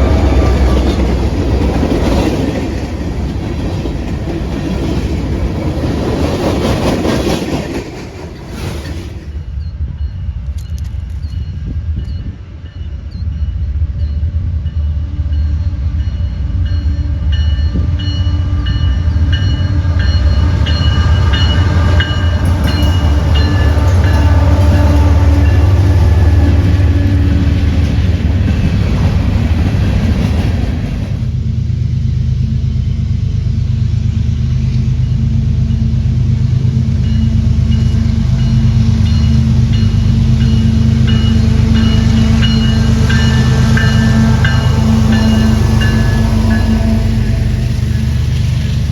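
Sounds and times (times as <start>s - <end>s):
train rumbling past: 0.0s - 48.9s.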